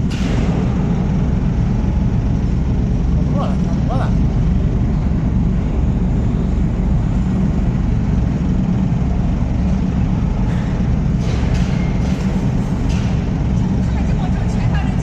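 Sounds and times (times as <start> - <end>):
hydraulic machine drone: 0.0 - 15.0.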